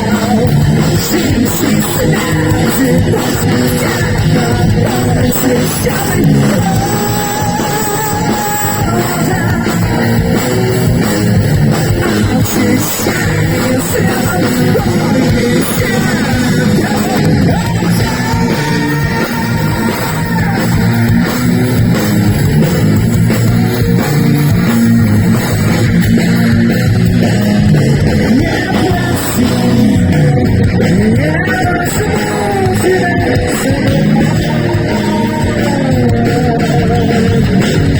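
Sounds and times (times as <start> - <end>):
electric guitar lead notes: 0.0 - 37.9
heavy metal band playing: 0.0 - 37.9.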